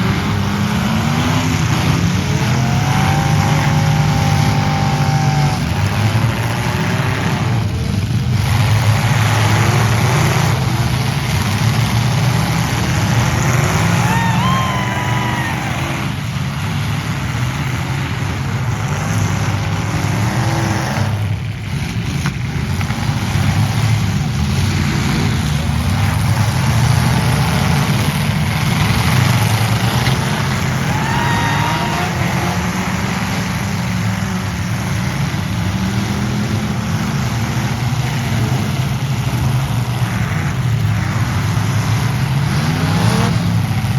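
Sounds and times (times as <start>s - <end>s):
truck engines revving: 0.0s - 43.9s.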